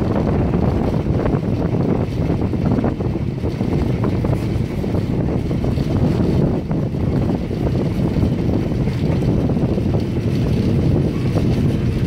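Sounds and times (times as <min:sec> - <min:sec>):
vehicle running noise: 0:00.0 - 0:12.0
wind rushing over microphone: 0:00.0 - 0:12.0.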